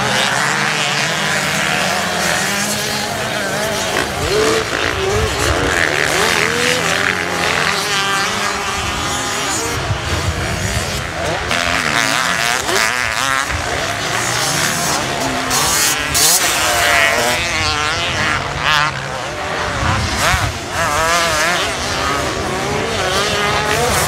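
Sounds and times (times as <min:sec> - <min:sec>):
motocross bike engines: 0:00.0 - 0:24.0.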